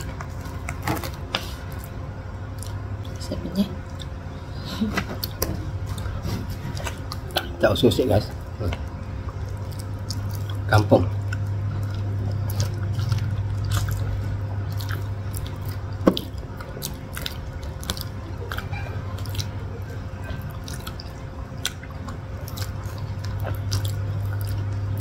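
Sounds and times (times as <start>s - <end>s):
wet chewing and lip-smacking: 0.0s - 4.3s, 4.9s - 25.0s
steady low hum: 0.0s - 25.0s.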